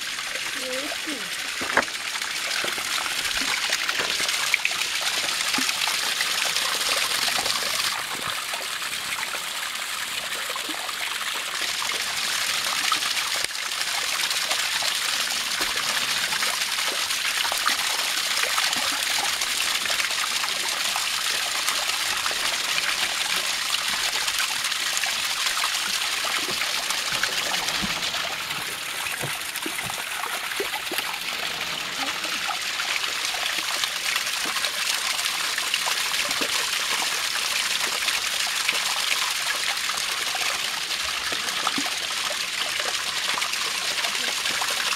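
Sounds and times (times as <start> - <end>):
small waterfall splashing into pool: 0.0 - 44.9.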